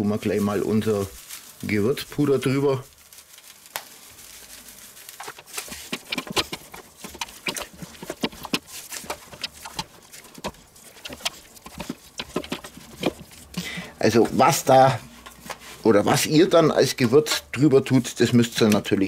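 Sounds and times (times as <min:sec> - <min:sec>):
hands patting and rubbing meat: 0:00.2 - 0:19.0.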